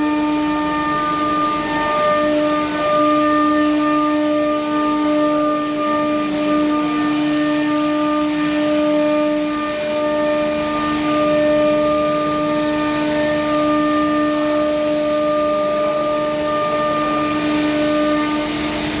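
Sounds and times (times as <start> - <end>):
hiss of cutting: 0.0 - 19.0
router spindle whine: 0.0 - 19.0.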